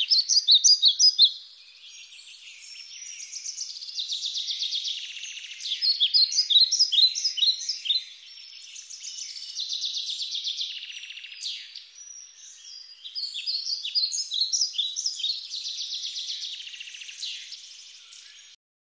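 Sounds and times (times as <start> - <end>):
songbirds singing: 0.0 - 18.6.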